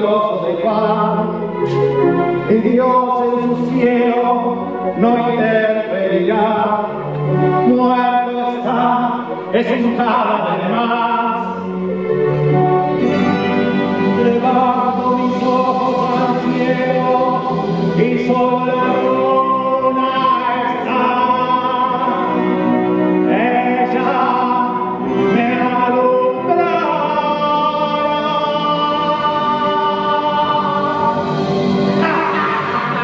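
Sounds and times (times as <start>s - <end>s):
musical accompaniment: 0.0s - 33.0s
musical theatre singing: 0.0s - 33.0s.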